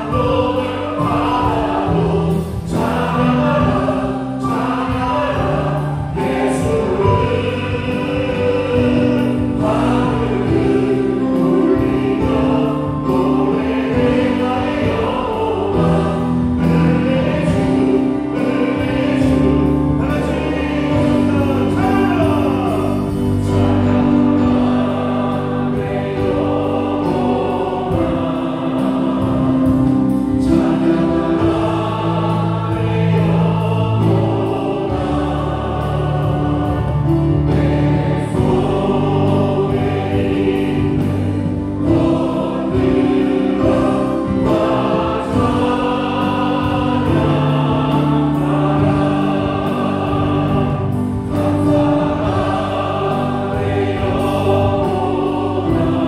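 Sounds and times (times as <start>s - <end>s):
drum kit: 0.0s - 56.0s
group singing worship song: 0.0s - 56.0s
keyboard: 0.0s - 56.0s.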